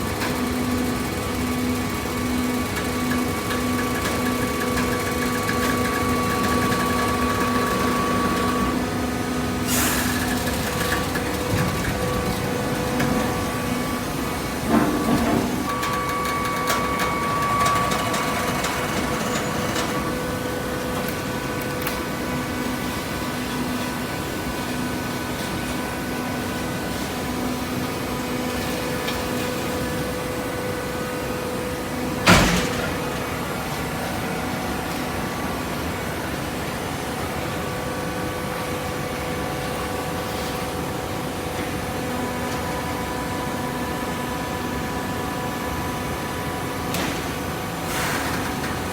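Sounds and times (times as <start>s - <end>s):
hydraulic power unit humming: 0.0s - 48.9s.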